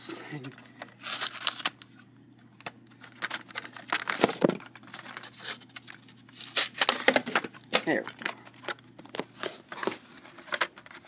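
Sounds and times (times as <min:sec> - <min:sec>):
packing material rustling: 0:00.4 - 0:01.8, 0:03.0 - 0:11.0.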